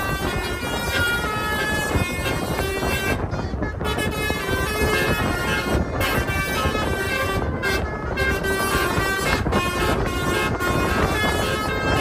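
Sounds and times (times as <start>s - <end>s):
multi-tone air horn tune: 0.0s - 12.0s.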